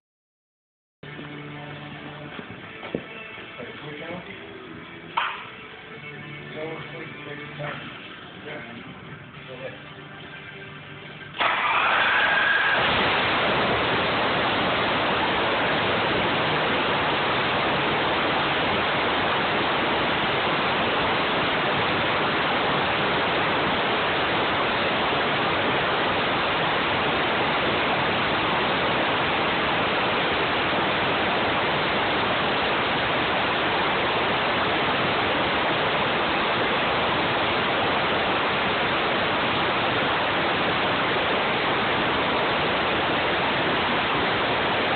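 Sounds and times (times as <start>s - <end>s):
engine running with rushing noise: 1.0s - 44.9s.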